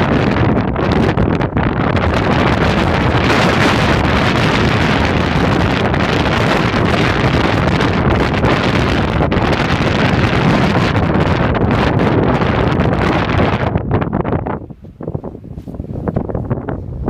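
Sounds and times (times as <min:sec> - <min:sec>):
low rumble: 0:00.0 - 0:14.7
wind buffeting microphone: 0:00.0 - 0:17.0.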